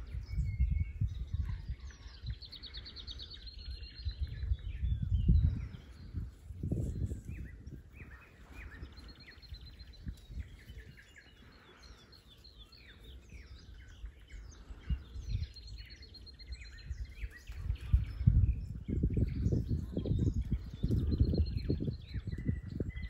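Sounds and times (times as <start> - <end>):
small birds singing and chirping: 0.0 - 23.0.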